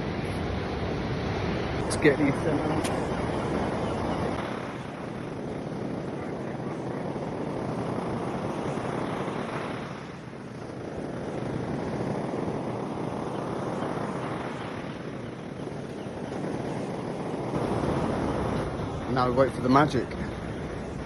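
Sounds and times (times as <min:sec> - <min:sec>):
surf on beach: 0:00.0 - 0:21.0
wind on microphone: 0:00.0 - 0:21.0.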